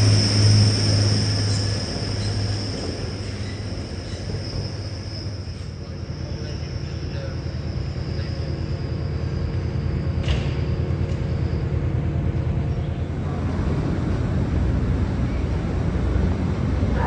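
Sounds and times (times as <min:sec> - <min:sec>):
engine hum: 0:00.0 - 0:17.0
train low rumble: 0:00.0 - 0:17.0.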